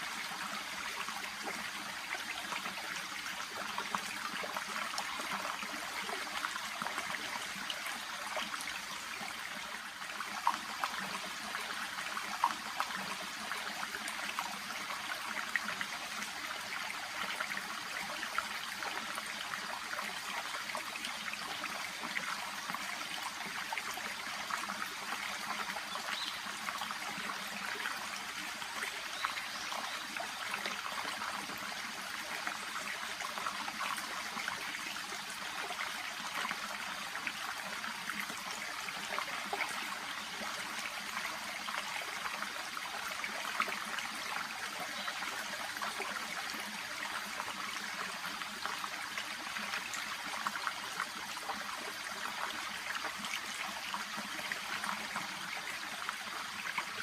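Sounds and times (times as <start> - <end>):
brook babbling: 0.0 - 57.0.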